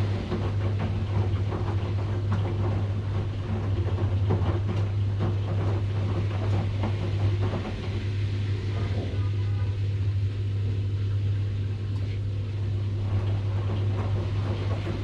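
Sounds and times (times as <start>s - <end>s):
washing machine knocks and rattles: 0.0s - 9.9s, 12.5s - 15.0s
washing machine motor hum: 0.0s - 15.0s.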